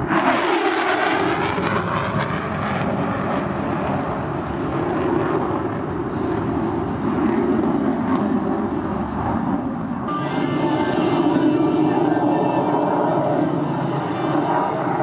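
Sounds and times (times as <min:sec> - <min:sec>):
jet passing by: 0:00.0 - 0:15.0.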